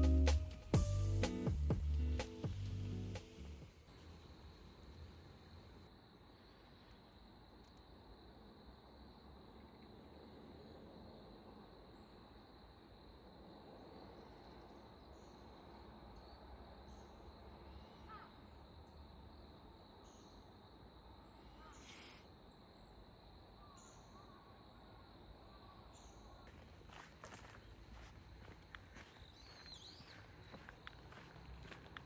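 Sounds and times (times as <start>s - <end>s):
insects chirping: 3.8s - 32.0s.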